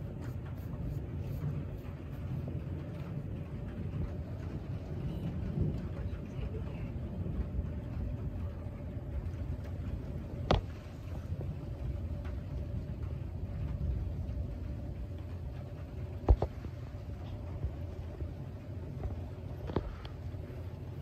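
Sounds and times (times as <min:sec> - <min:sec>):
distant thunder rumble: 0:00.0 - 0:21.0
faint steady hum: 0:00.0 - 0:21.0.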